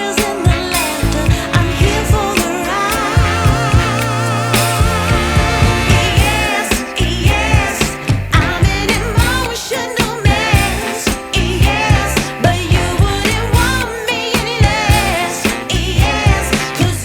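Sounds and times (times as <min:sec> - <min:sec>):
pop song with singer: 0:00.0 - 0:17.0.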